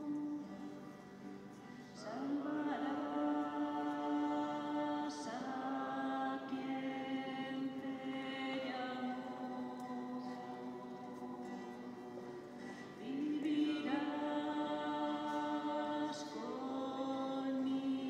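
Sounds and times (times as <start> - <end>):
slow church music chanted or sung: 0.0 - 18.0.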